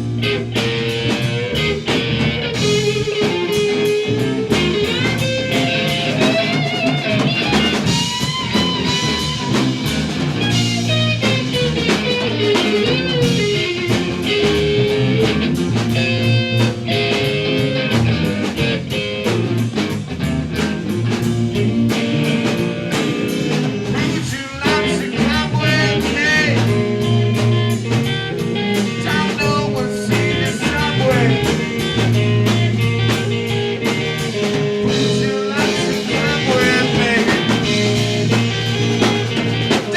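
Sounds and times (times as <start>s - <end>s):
electric guitar lead: 0.0s - 39.9s
rock band playing: 0.0s - 39.9s.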